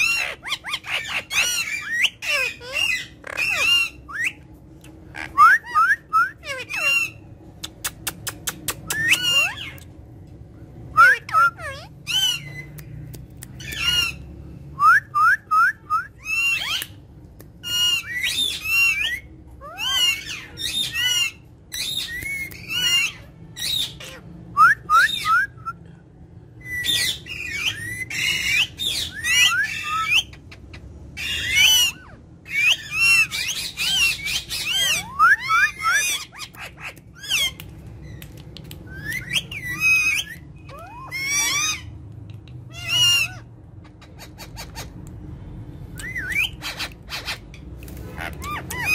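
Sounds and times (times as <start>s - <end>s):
parakeets squawking and chirping: 0.0s - 14.8s, 15.9s - 25.6s, 26.3s - 48.9s.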